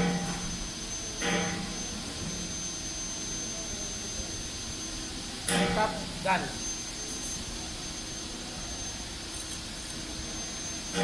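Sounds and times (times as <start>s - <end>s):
machinery hum with high whine: 0.0s - 11.0s.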